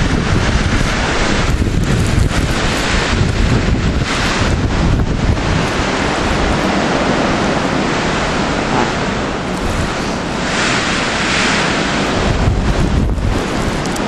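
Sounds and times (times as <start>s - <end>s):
blizzard wind blowing hard: 0.0s - 14.0s
wind buffeting microphone: 0.0s - 14.0s.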